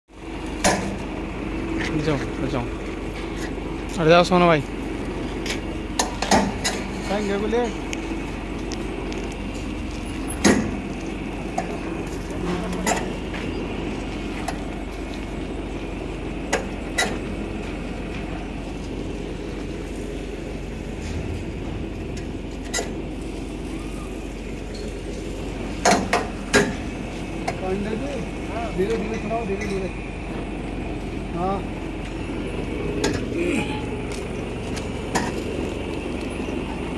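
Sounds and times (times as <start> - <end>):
truck engine running: 0.1 - 36.9.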